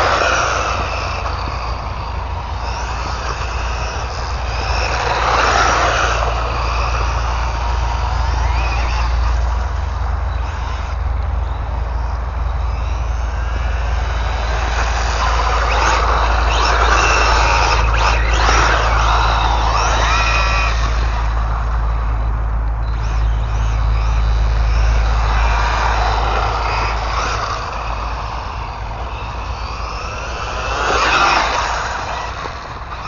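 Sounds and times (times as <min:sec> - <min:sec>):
electric motor whining: 0:00.0 - 0:33.0
steady low rumble: 0:00.0 - 0:33.0.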